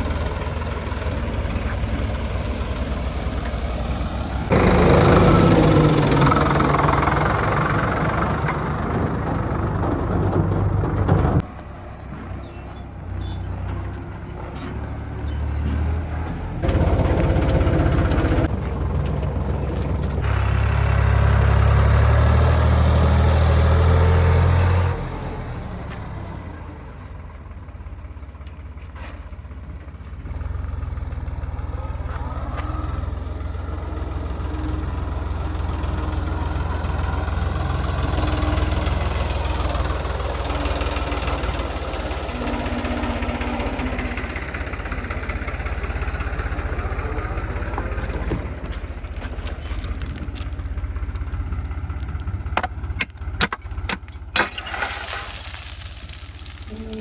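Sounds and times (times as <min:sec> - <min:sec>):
heavy diesel engine running: 0:00.0 - 0:54.6, 0:55.6 - 0:57.0.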